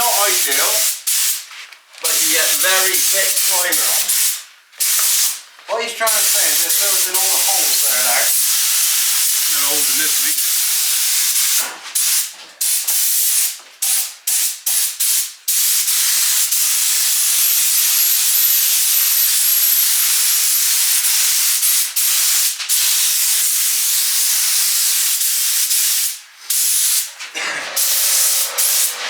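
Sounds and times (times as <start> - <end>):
spray gun hissing: 0.0 - 1.4, 2.1 - 5.4, 6.1 - 24.0, 27.7 - 29.0.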